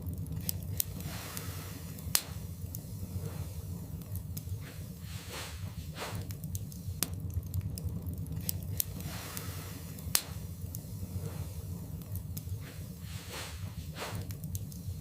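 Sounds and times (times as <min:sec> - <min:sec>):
fire low rumble: 0:00.0 - 0:15.0
logs crackling and popping: 0:00.0 - 0:15.0.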